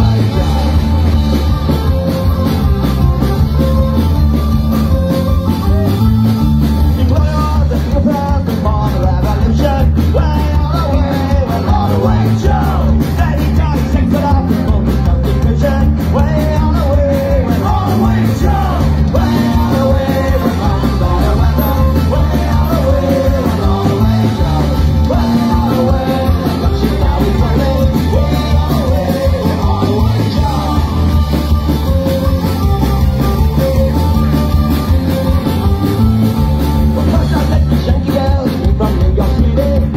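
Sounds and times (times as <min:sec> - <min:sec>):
button accordion: 0:00.0 - 0:39.9
drums: 0:00.0 - 0:39.9
electric guitars: 0:00.0 - 0:39.9
folk-punk band playing loud: 0:00.0 - 0:39.9.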